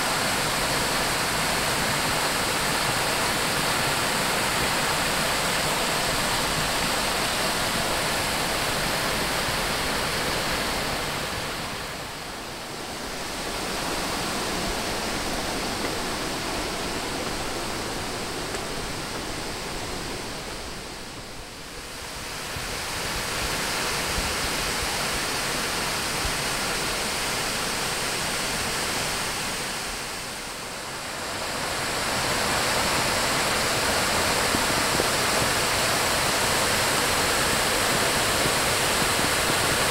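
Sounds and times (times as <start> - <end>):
creek rushing over rock: 0.0 - 39.9.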